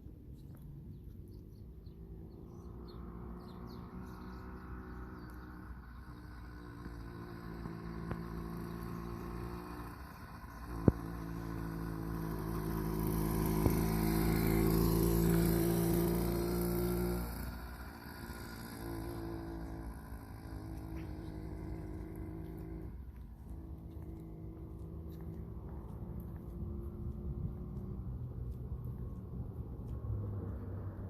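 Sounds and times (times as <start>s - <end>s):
motorized bike engine: 2.4s - 31.0s.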